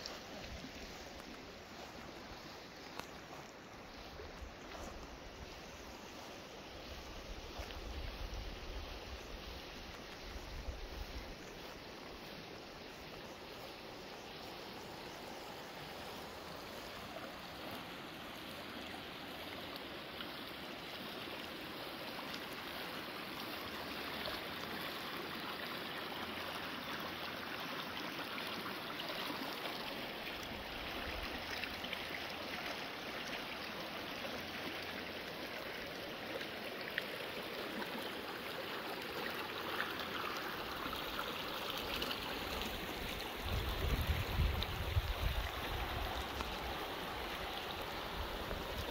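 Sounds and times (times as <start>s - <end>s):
brook water rushing: 0.0s - 48.9s.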